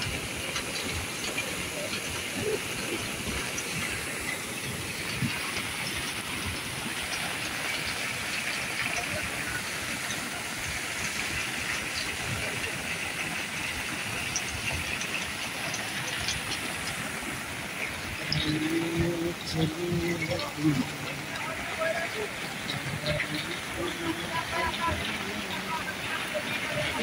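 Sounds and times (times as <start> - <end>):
river rushing in flood: 0.0 - 27.0.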